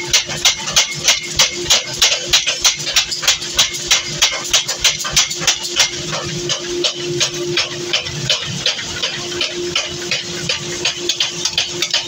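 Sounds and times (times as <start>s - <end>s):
machine hum: 0.0s - 12.0s
power hammer pounding steel: 0.0s - 12.0s.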